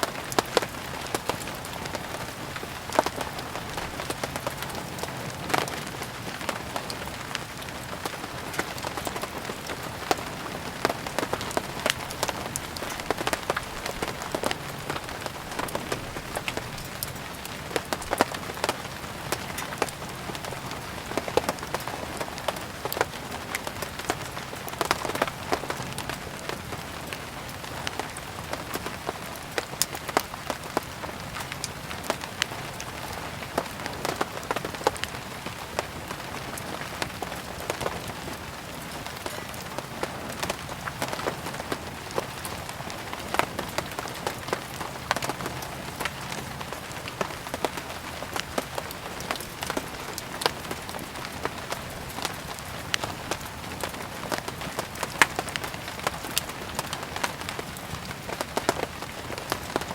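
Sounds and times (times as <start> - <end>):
rain hiss: 0.0 - 59.9
wood fire crackling: 0.0 - 59.9.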